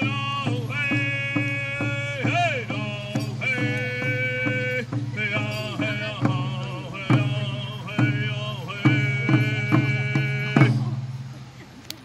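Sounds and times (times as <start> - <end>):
men chanting in high voices: 0.0 - 11.0
steady beat on large drum: 0.0 - 11.2.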